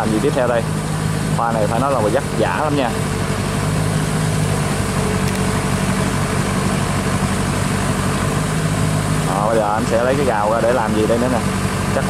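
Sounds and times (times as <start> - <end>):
diesel engines idling: 0.0 - 12.0.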